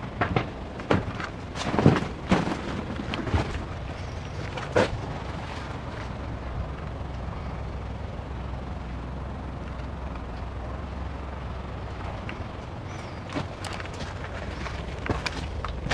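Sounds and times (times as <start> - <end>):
low background rumble: 0.0 - 15.9.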